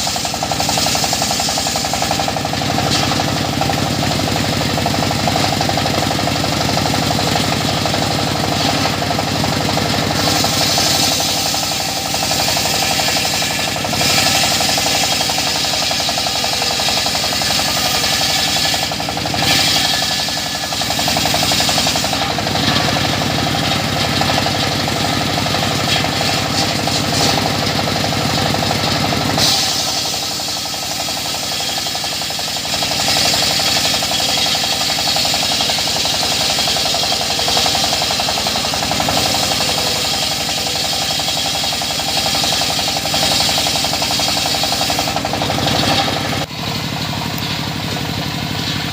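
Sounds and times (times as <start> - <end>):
circular sawmill running: 0.0 - 48.9.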